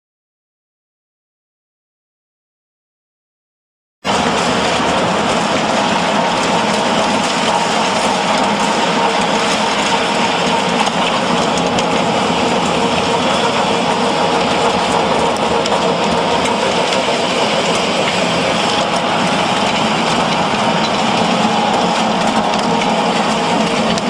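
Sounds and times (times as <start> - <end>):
constant hum: 4.1 - 24.0
machinery running: 4.1 - 24.0.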